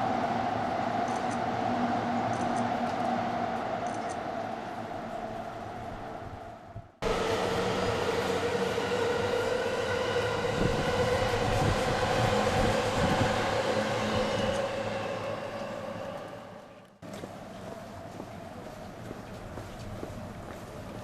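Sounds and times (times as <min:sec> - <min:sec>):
humming tone: 0:00.0 - 0:17.0
electric train rumbling past: 0:00.0 - 0:21.0.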